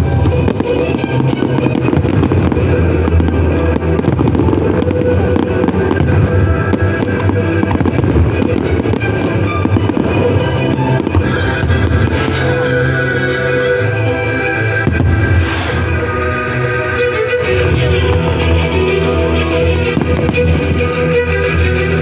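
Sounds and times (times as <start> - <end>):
fireworks bursting and crackling: 0.0 - 22.0
loud music: 0.0 - 22.0.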